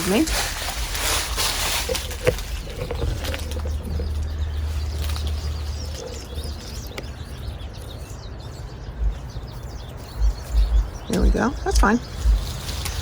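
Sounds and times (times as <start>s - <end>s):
low rumble: 0.0s - 13.0s
small birds chirping: 0.0s - 13.0s.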